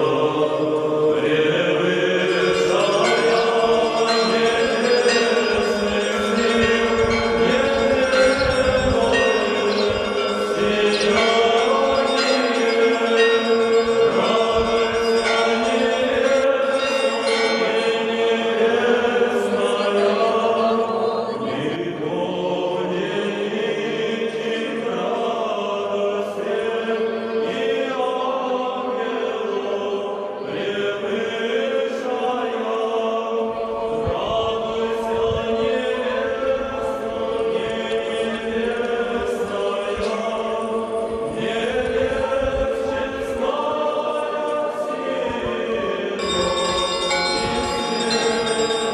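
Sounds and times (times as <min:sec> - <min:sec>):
choir singing a church chant: 0:00.0 - 0:48.9.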